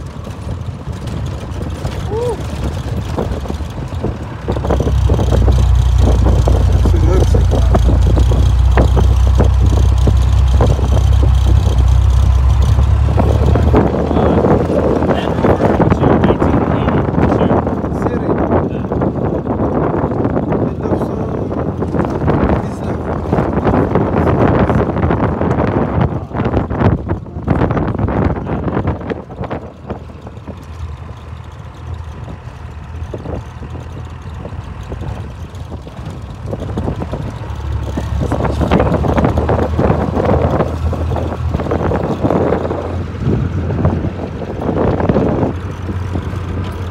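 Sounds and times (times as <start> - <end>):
engine droning from inside cab: 0.0 - 46.9
vehicle body knocking and rattling: 0.0 - 46.9.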